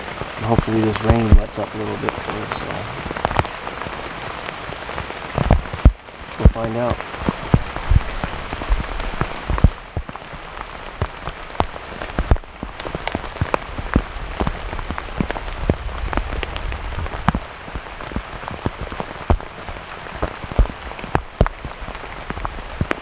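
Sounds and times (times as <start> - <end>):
big raindrops tapping: 0.0 - 23.0
heavy rain falling: 0.0 - 23.0.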